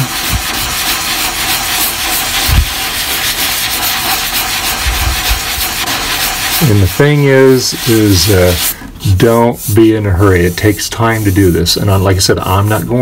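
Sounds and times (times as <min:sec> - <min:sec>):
sanding sponge rasping on plastic: 0:00.0 - 0:13.0.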